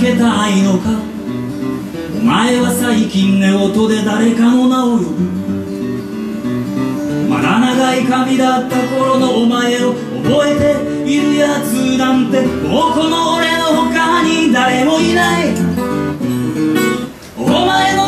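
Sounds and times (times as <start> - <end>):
man singing slow song: 0.0 - 5.8, 7.0 - 16.2, 17.3 - 18.0
acoustic guitar strumming: 0.0 - 18.0.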